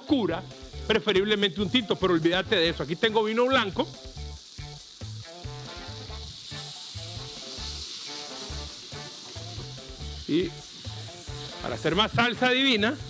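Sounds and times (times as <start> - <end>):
background music with beat: 0.0 - 13.0
steaks sizzling in frying pan: 0.0 - 13.0.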